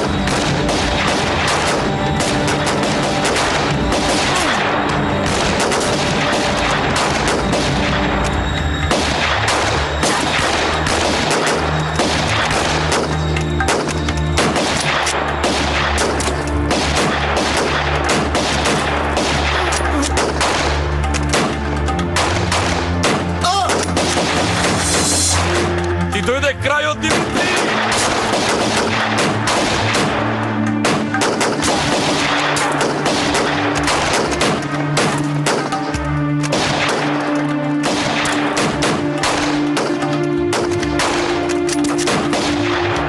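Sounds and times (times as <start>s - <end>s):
rifle shots: 0.0s - 26.1s, 27.1s - 43.0s
music playing: 0.0s - 43.0s.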